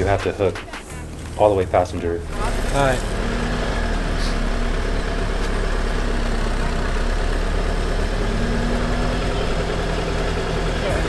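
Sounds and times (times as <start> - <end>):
off-road vehicle engine idling: 0.0 - 11.0.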